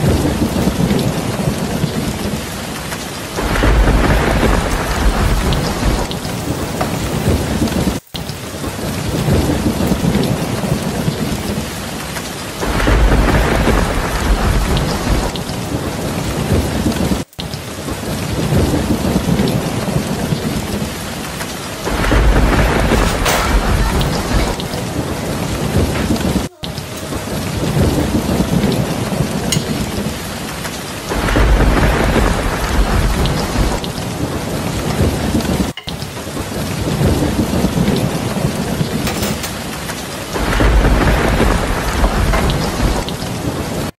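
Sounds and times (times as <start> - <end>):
rain hiss: 0.0 - 43.9
thunder rumble: 0.0 - 43.9.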